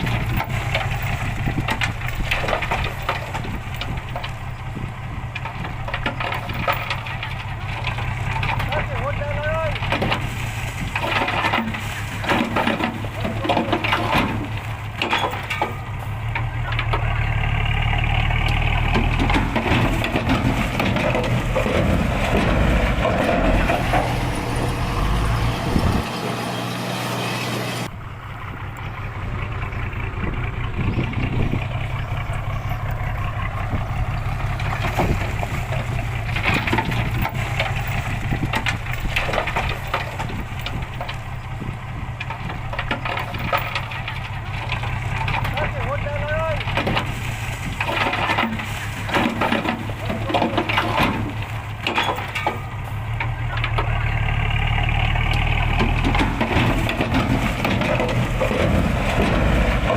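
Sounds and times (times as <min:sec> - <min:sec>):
coarse crushing noise: 0:00.0 - 0:27.9, 0:31.3 - 0:59.9
dump truck diesel engine: 0:00.0 - 0:59.9.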